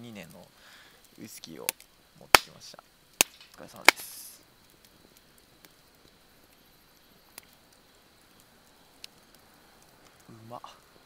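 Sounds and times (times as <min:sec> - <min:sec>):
wood fire popping: 0:00.0 - 0:11.0.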